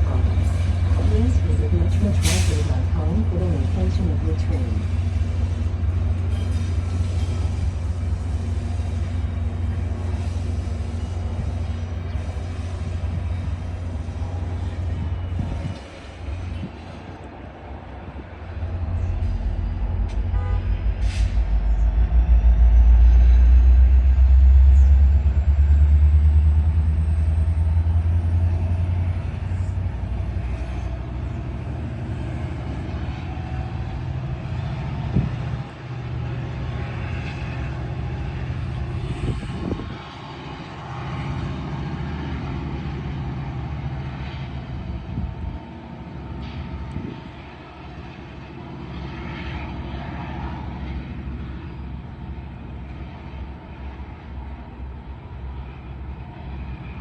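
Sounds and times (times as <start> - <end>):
diesel locomotive drone: 0.0 - 57.0.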